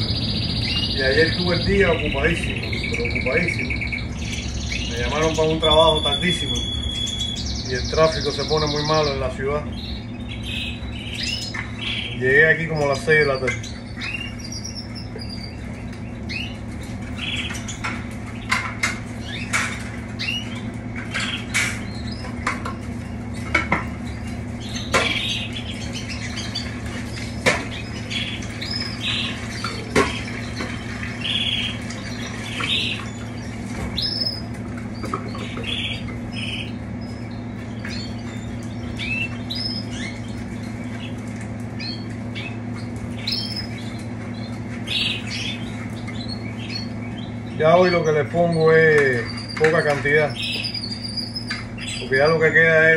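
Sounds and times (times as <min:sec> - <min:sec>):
canaries chirping: 0:00.0 - 0:52.9
steady low hum: 0:00.0 - 0:52.9.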